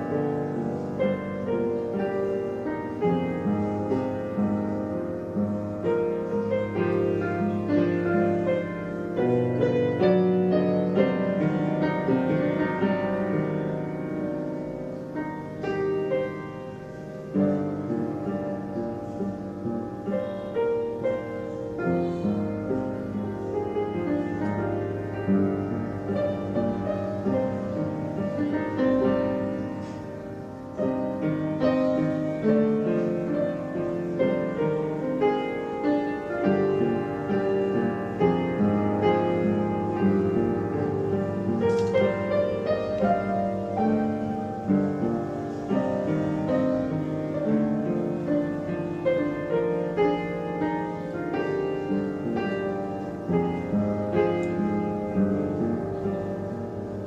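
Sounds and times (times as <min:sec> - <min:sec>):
background piano music: 0:00.0 - 0:57.0.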